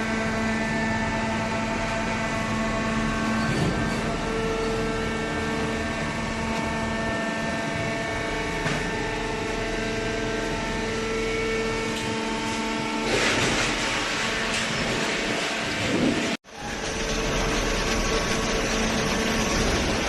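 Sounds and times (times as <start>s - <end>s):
baling machine hum: 0.0s - 20.0s.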